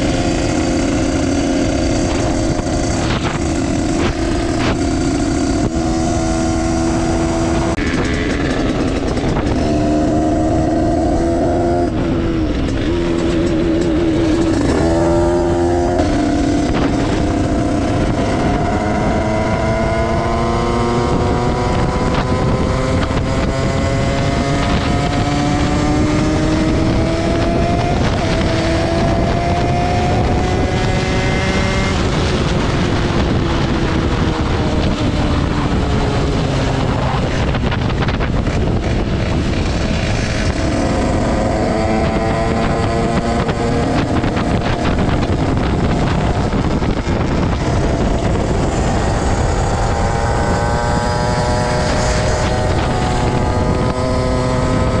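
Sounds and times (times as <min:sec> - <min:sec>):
two-stroke engine revving: 0:00.0 - 0:55.0
wind buffeting microphone: 0:00.0 - 0:55.0.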